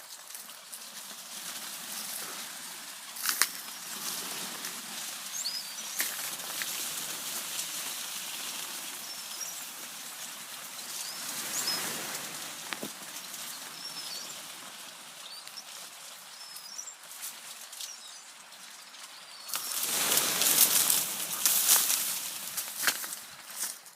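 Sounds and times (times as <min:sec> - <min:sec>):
steady outdoor hiss: 0:00.0 - 0:23.9
small birds chirping: 0:00.1 - 0:22.7.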